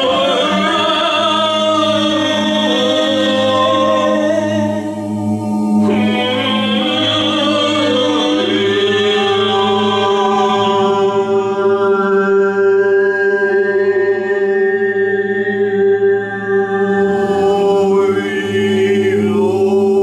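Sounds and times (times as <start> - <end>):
a cappella group chanting: 0.0 - 20.0
low sung drone: 0.0 - 20.0.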